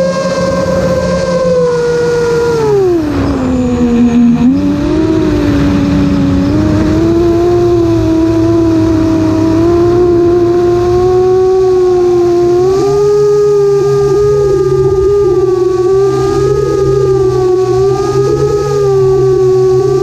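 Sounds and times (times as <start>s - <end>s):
electric motors and propellers whining: 0.0s - 20.0s.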